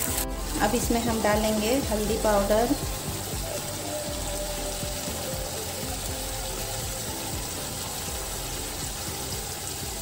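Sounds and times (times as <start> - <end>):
oil and paste sizzling: 0.0 - 10.0.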